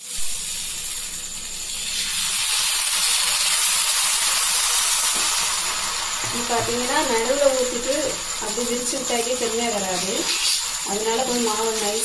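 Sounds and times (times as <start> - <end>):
batter sizzling on hot griddle: 0.0 - 12.0.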